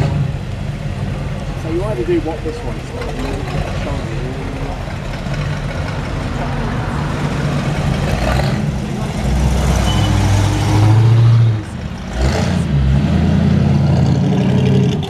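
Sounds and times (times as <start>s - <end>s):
car engines driving past: 0.0s - 15.0s.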